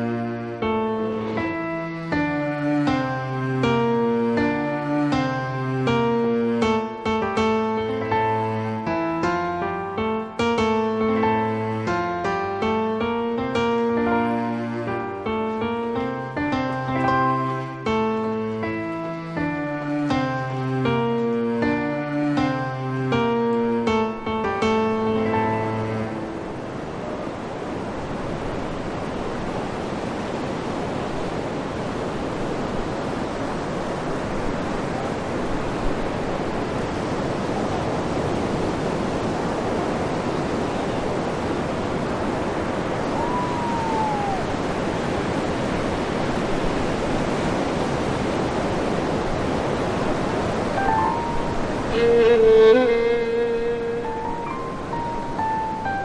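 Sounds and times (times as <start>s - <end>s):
waves breaking on beach: 0.0s - 23.0s, 23.6s - 56.0s.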